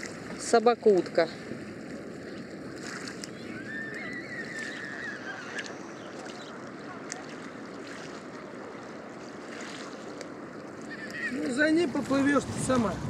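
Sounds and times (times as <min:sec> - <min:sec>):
lake water washing: 0:00.0 - 0:13.0.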